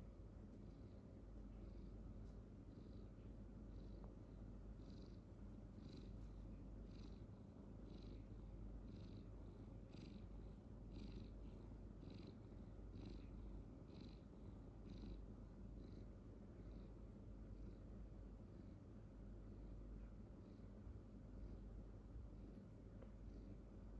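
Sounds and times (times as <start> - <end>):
cat purring: 0.5 - 23.9.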